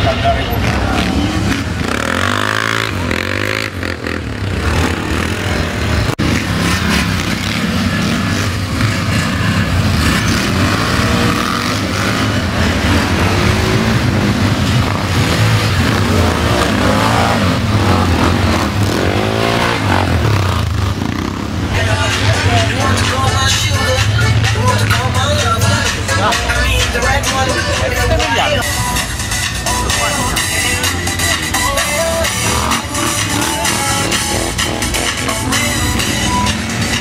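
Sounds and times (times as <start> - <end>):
quad engines revving: 0.0 - 37.0.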